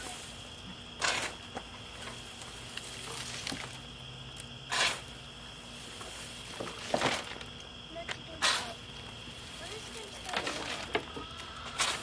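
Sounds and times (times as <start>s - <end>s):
wood chips rustling when scooped: 0.0s - 3.9s, 4.7s - 12.0s.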